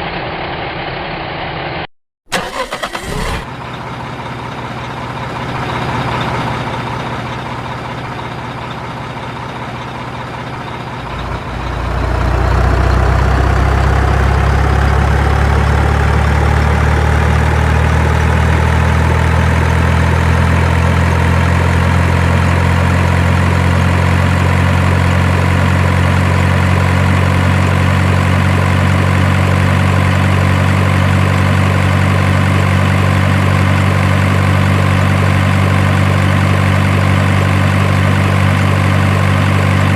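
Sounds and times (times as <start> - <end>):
large engine idling: 2.3 - 39.9.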